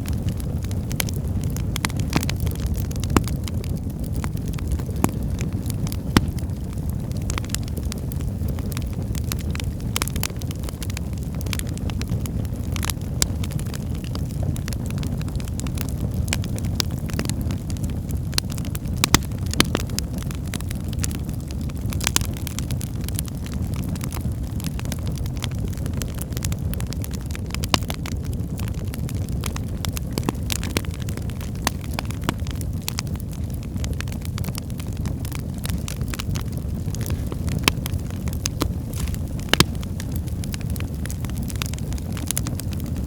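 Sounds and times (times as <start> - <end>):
fire flames rumbling: 0.0 - 43.0
firewood crackling and popping: 0.0 - 43.0.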